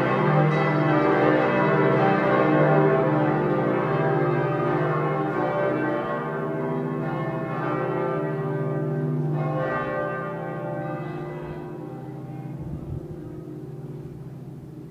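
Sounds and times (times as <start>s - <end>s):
church bells ringing: 0.0s - 14.9s.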